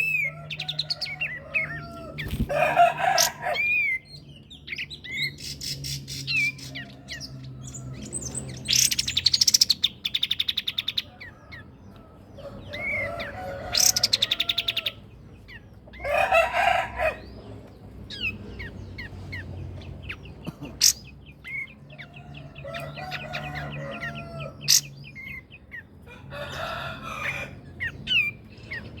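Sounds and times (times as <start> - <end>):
songbirds singing chirps and trills: 0.0 - 29.0.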